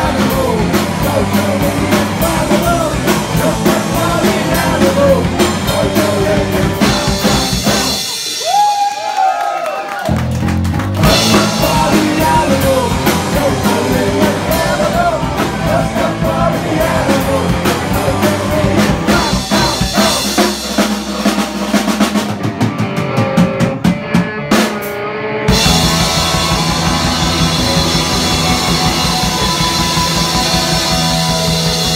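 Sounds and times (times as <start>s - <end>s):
distorted electric guitars: 0.0s - 8.5s, 10.1s - 31.9s
bass guitar: 0.0s - 8.8s, 10.0s - 31.9s
drum kit: 0.0s - 31.9s.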